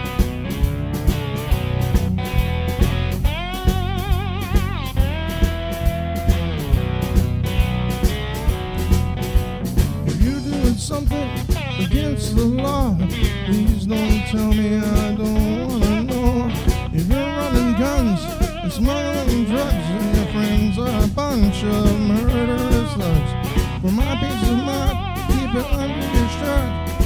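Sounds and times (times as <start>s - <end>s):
bass: 0.0s - 27.0s
percussion beat: 0.0s - 27.0s
shovel guitar melody: 0.0s - 27.0s.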